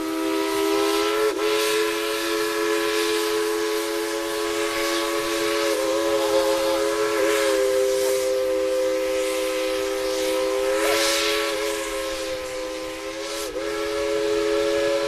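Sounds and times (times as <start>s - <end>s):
steam locomotive whistle: 0.0s - 15.0s.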